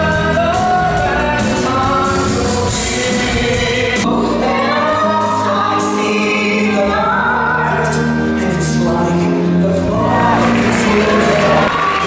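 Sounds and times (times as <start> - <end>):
choir singing: 0.0 - 12.0
musical backing: 0.0 - 12.0.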